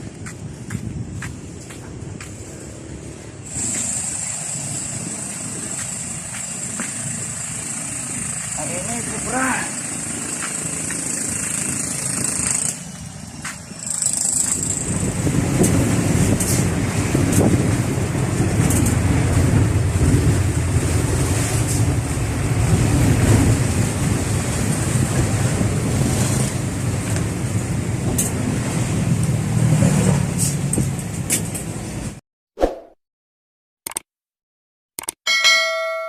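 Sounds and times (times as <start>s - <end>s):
engine and road rumble: 0.0s - 32.2s.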